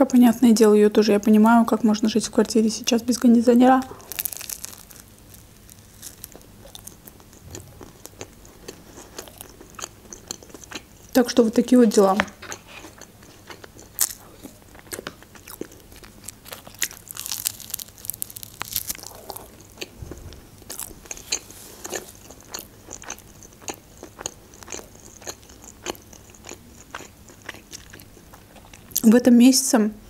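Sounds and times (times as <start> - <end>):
crunchy bites and chewing: 3.2 - 11.2, 12.2 - 29.0
crackles and mouth clicks: 3.8 - 11.2, 12.2 - 29.1.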